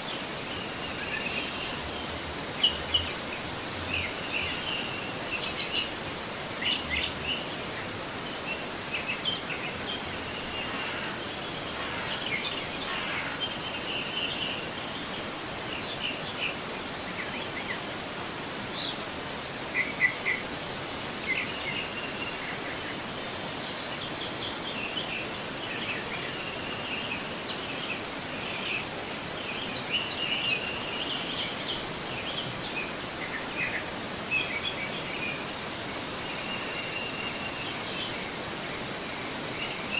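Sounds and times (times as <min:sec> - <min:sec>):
river water flowing: 0:00.0 - 0:39.9
songbirds chirping: 0:00.0 - 0:39.9.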